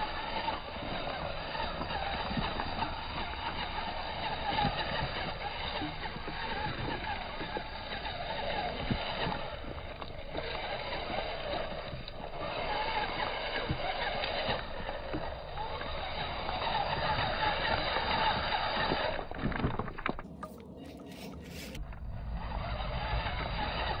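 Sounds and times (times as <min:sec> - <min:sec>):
toy car motor whirring: 0:00.0 - 0:19.4, 0:20.3 - 0:21.8.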